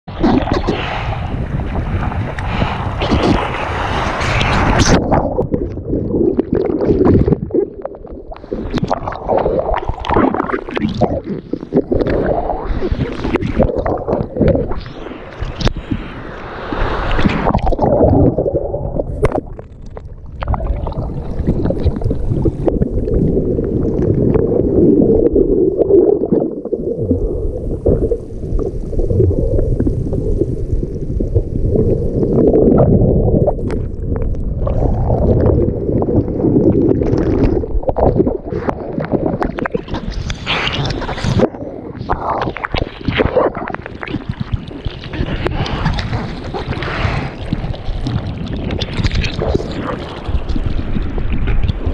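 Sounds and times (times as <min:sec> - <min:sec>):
underwater surf rumble and gurgling: 0:00.0 - 0:51.9
water splashing: 0:00.1 - 0:51.9.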